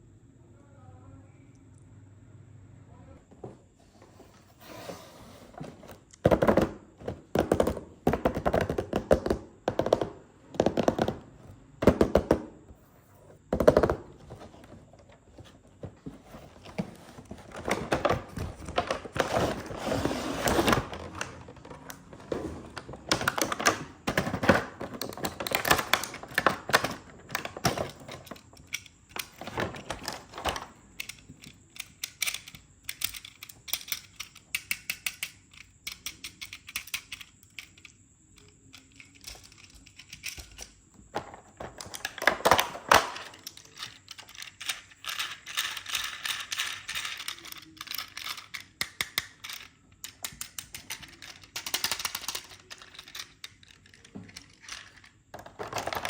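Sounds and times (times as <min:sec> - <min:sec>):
toy cars and packaging handled: 0:03.7 - 0:56.0.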